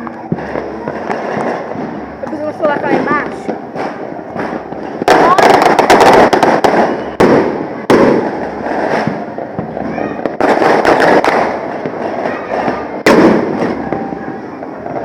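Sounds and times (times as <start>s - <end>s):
firework crackles: 0.0s - 15.0s
fireworks bangs: 0.0s - 15.0s.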